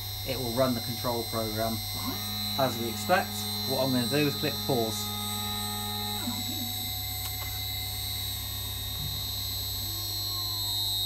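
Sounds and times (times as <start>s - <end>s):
spindle high whine: 0.0s - 11.0s
stepper motors whirring: 0.0s - 11.0s
short steady tone: 0.3s - 10.5s.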